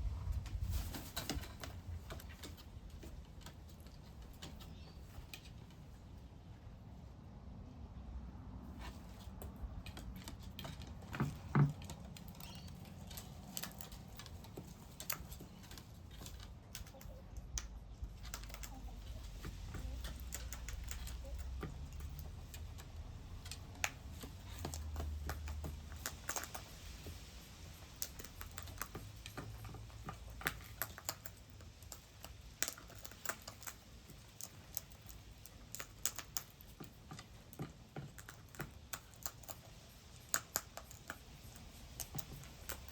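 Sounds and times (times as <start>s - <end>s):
birds pecking at seed: 0.0s - 6.4s, 8.7s - 42.9s.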